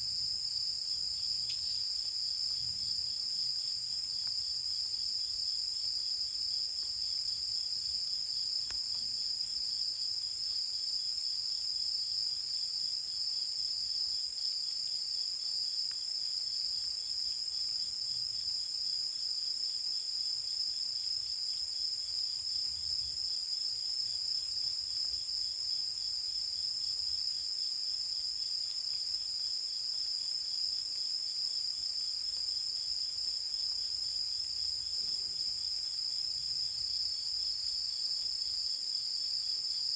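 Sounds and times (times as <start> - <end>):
rapidly pulsing insect call: 0.0 - 39.9.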